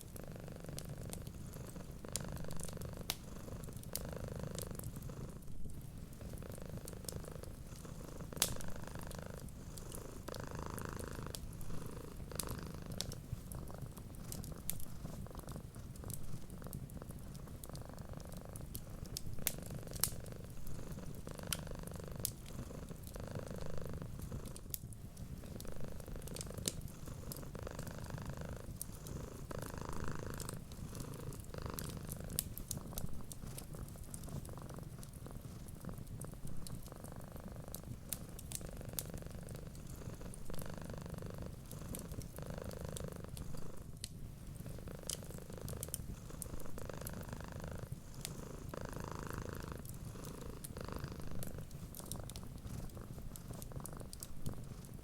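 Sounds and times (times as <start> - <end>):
cat purring: 0.0 - 55.0
wood fire crackling: 0.8 - 5.0, 5.6 - 55.0.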